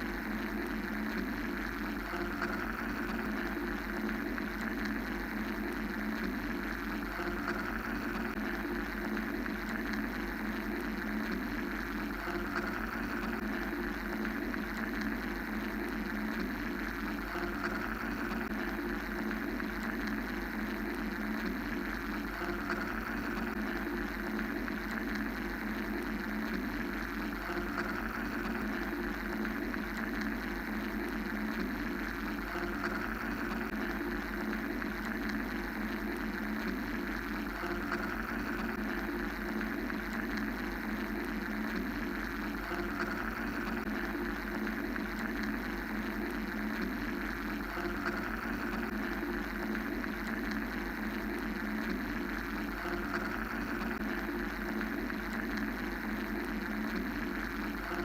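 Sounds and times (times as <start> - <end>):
mechanical white-noise drone: 0.0 - 58.0.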